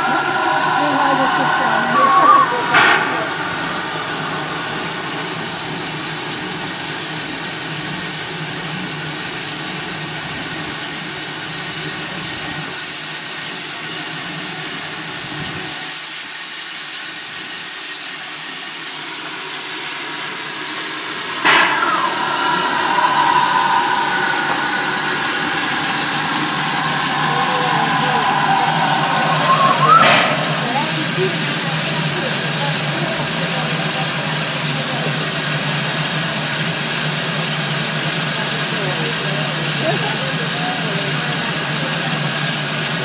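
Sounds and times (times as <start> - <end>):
steam locomotive hissing: 0.0 - 12.8, 20.1 - 43.0
rush of steam: 0.0 - 43.0.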